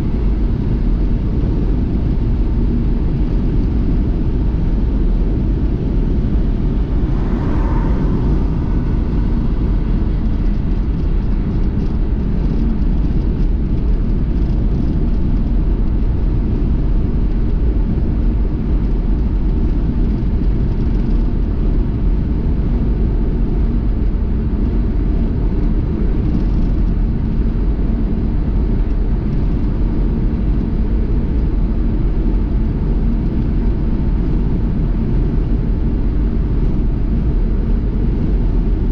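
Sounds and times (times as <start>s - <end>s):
car driving road noise: 0.0s - 38.8s.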